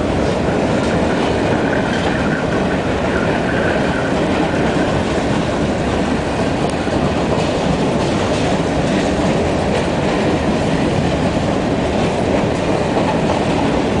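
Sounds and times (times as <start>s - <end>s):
steel train wheels rumbling on rails: 0.0s - 14.0s
wheels clacking over rail joints: 0.0s - 14.0s.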